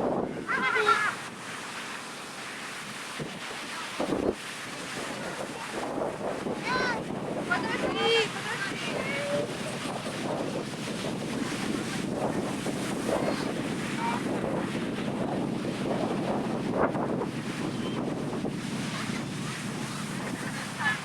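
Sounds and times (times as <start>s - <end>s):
ocean waves washing onto beach: 0.0s - 21.0s
wind buffeting microphone: 0.0s - 21.0s.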